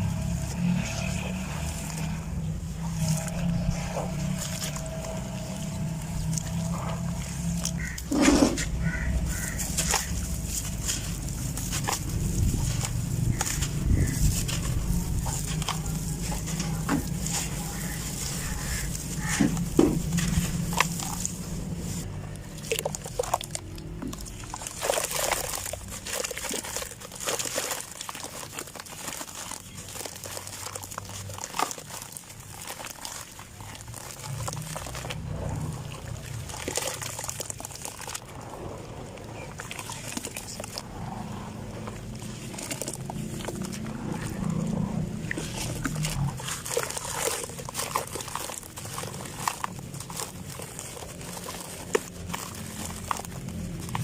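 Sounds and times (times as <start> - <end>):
dirt clumps crumbling and crunching: 0.0 - 54.0.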